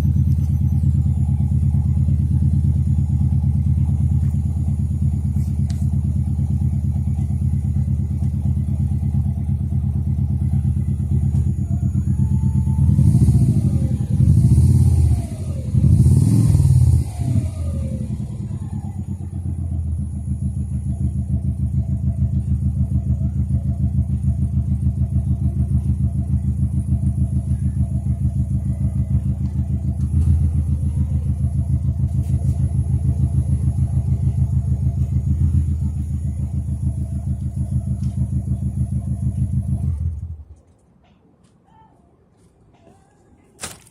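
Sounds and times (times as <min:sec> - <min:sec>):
engine idling with pulsing exhaust: 0:00.0 - 0:40.8.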